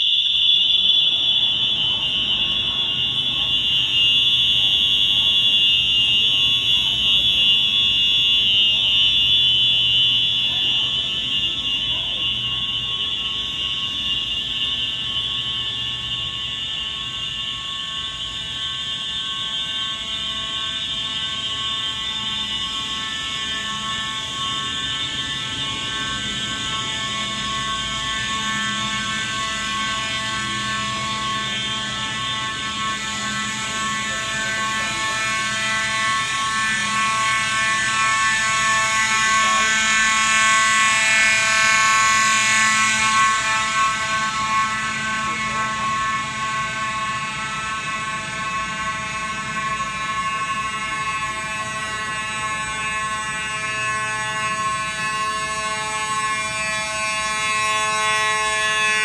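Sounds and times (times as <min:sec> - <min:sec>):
fire alarm horns buzzing: 0:00.0 - 0:59.0.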